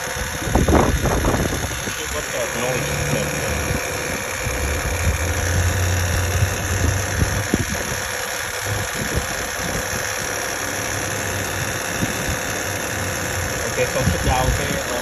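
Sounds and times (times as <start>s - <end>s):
car engine idling: 0.0s - 15.0s
engine ticking: 0.0s - 15.0s.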